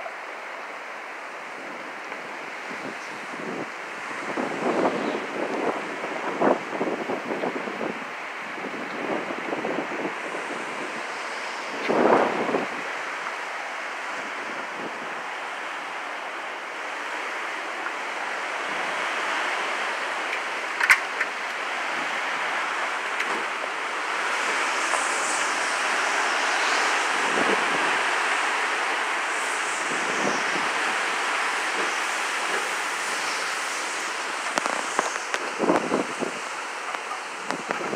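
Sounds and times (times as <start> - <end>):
hurricane wind and rain: 0.0 - 37.9.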